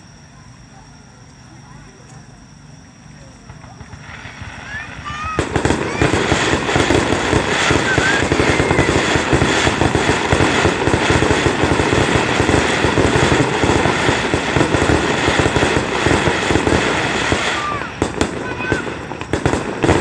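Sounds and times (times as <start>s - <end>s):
fireworks bursting: 3.4s - 20.0s.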